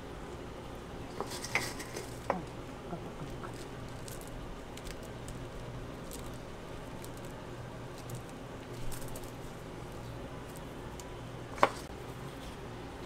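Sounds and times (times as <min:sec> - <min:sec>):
kitchen room hum: 0:00.0 - 0:13.0.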